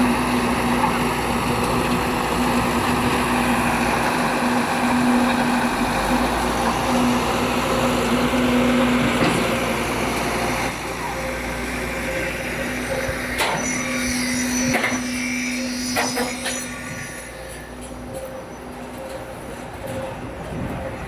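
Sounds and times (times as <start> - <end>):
pump humming: 0.0 - 19.1.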